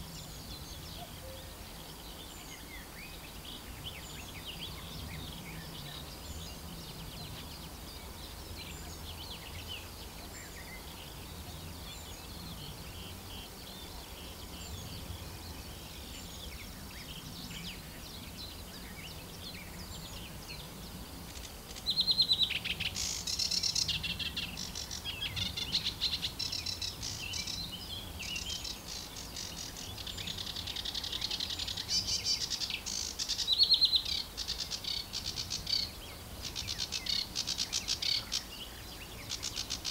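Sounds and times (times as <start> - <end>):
distant birdsong: 0.0 - 39.9
warbler singing chattering song: 0.0 - 39.9.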